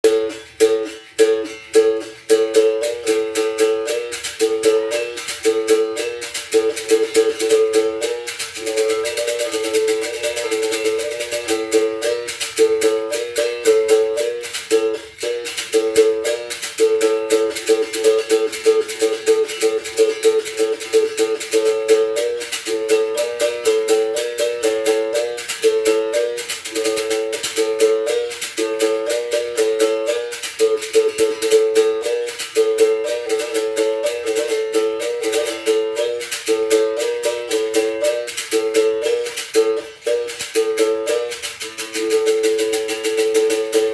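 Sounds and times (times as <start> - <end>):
high-pitched berimbau rhythm: 0.0 - 43.9
rattle shaking: 0.0 - 43.9.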